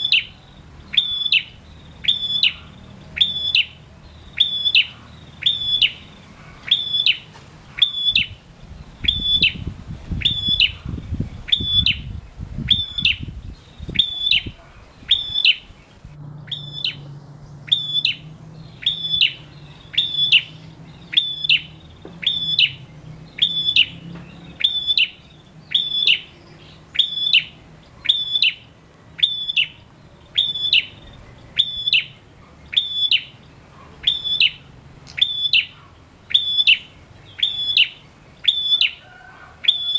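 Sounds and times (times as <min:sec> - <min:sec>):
bird singing high sharp notes: 0:00.0 - 0:33.4, 0:34.0 - 0:39.0.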